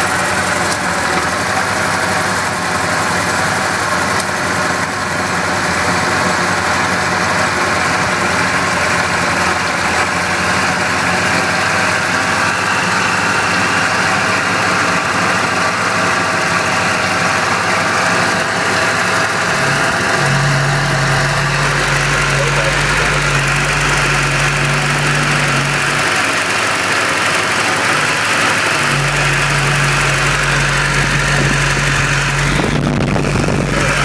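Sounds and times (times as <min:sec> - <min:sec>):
car engine fast idle: 0:00.0 - 0:34.0.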